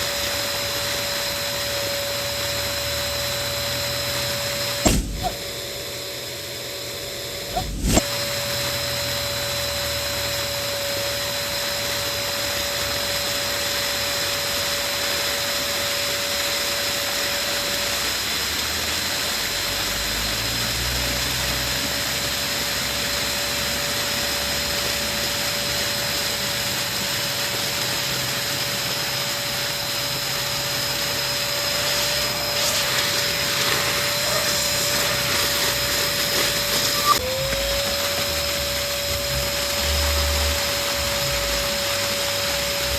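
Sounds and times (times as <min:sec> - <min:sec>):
electric balloon pump whining: 0:00.0 - 0:15.8, 0:19.7 - 0:42.9.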